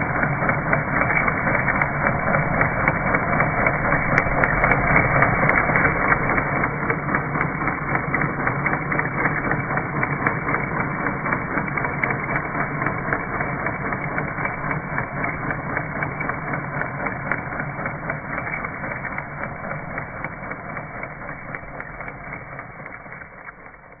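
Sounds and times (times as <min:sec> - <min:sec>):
track sweeper brush rattling: 0:00.0 - 0:24.0.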